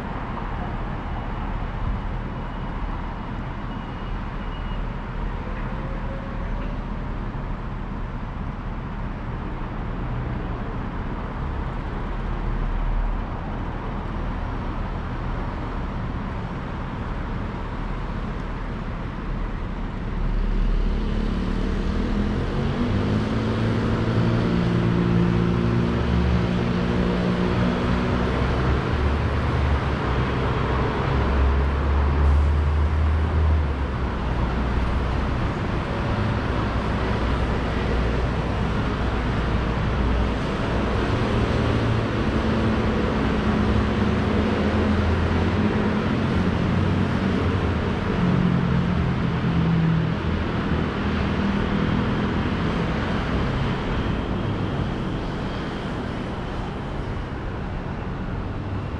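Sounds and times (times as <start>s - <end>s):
passing vehicles: 0.0s - 58.9s.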